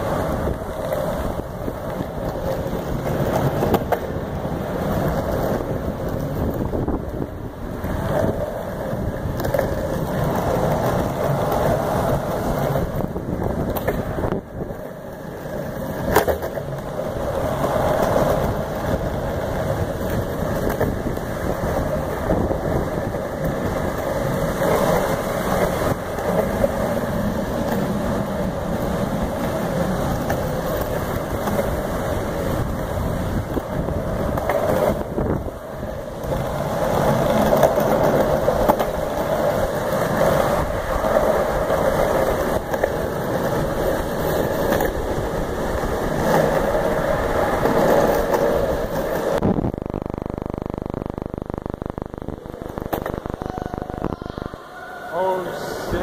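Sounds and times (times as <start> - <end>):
longboard wheels rolling on concrete: 0.0 - 56.0.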